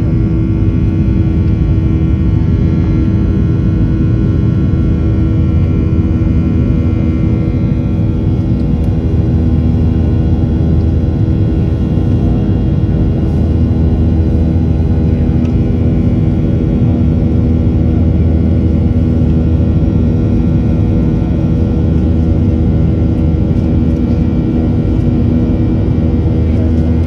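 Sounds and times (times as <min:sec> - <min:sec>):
airplane engines rumbling: 0:00.0 - 0:27.0
steady humming tones: 0:00.0 - 0:27.0.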